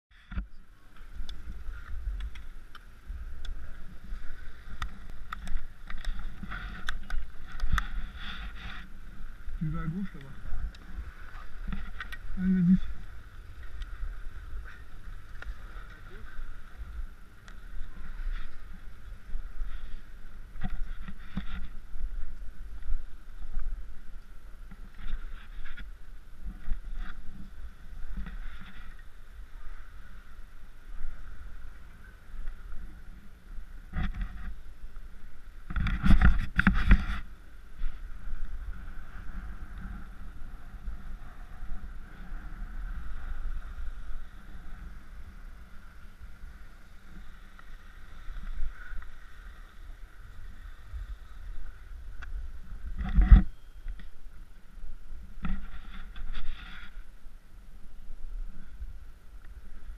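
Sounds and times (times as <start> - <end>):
wind on microphone: 0.1 - 59.9
skis scraping over snow: 0.8 - 53.7.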